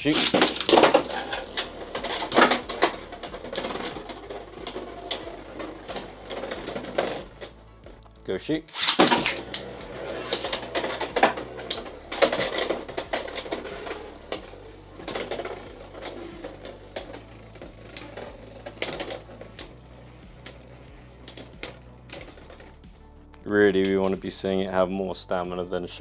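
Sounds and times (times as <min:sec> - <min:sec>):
spinning tops clattering: 0:00.0 - 0:07.8, 0:08.7 - 0:22.9.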